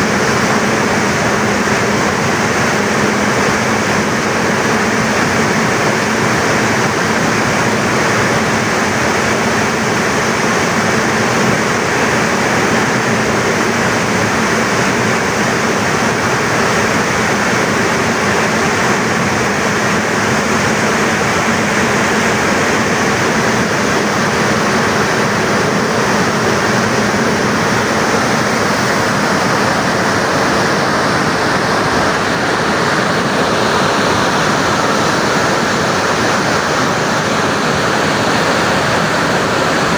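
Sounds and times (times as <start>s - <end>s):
water rushing through spillway: 0.0s - 39.9s.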